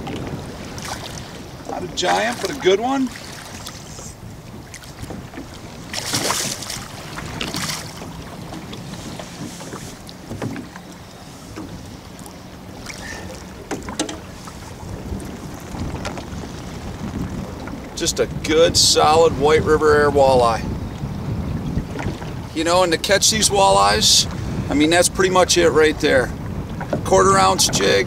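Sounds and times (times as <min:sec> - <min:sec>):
water slapping against hull: 0:00.0 - 0:28.0
wind on microphone: 0:00.0 - 0:28.0.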